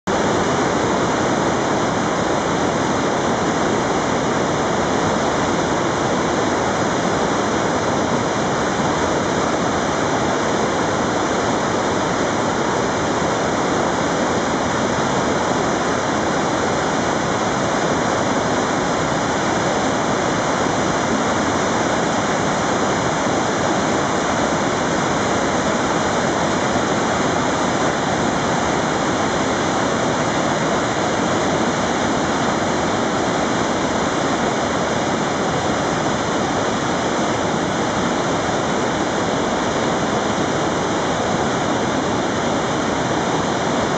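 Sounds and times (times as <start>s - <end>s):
water rushing over boulders: 0.1s - 43.9s.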